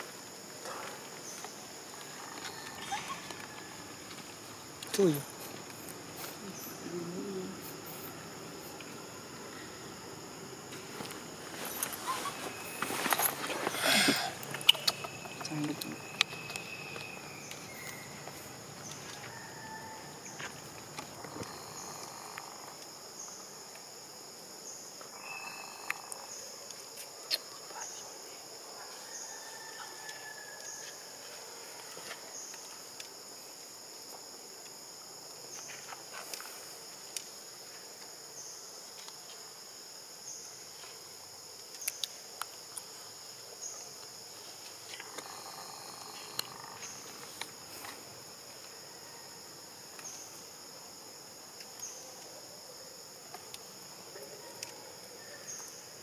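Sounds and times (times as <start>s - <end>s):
pulsing insect chorus: 0.0s - 56.0s.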